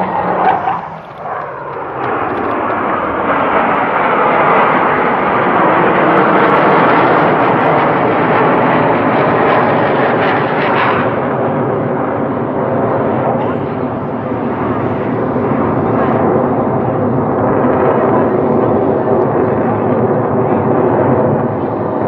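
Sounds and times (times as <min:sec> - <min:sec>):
jet aircraft engine roar: 0:00.0 - 0:22.0.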